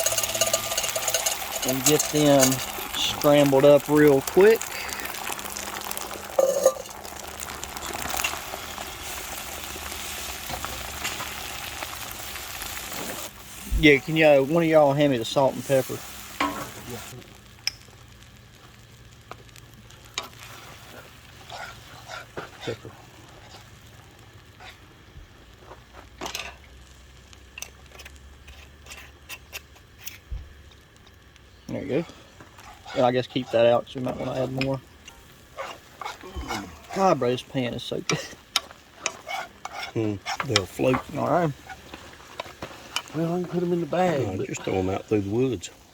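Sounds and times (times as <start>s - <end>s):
eggs sizzling in frying pan: 0.0s - 45.9s.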